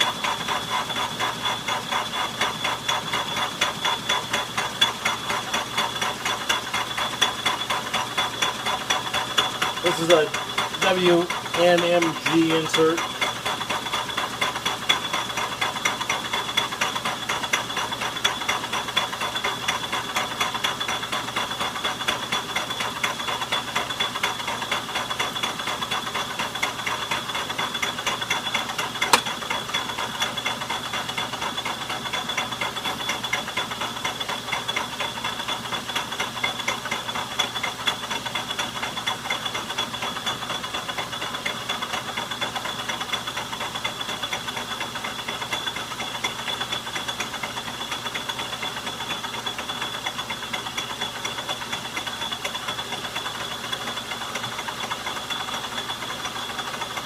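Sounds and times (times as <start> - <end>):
metal lathe running: 0.0 - 57.0.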